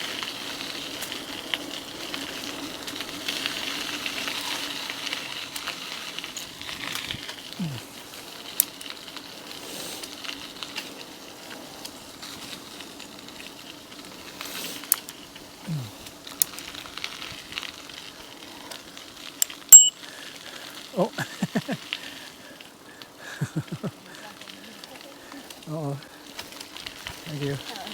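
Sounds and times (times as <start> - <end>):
bike clicks and rattles: 0.0 - 27.9
bike tyres rolling on trail: 0.0 - 27.9.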